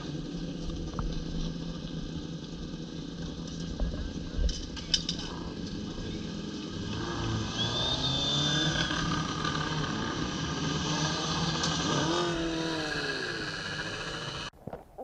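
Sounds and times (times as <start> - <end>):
motorcycle engines revving: 0.0 - 14.6
motorcycle revving and pulling away: 0.0 - 14.6.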